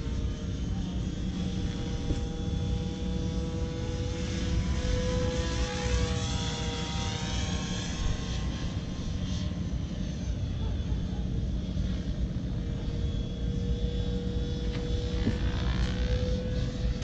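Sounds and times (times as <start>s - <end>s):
model helicopter whine: 0.0s - 17.0s.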